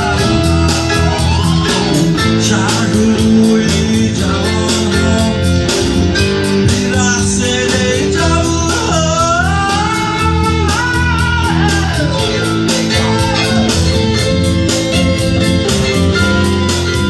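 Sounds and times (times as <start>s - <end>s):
guitar: 0.0s - 17.0s
steady beat: 0.0s - 17.0s
sustained bass notes: 0.0s - 17.0s.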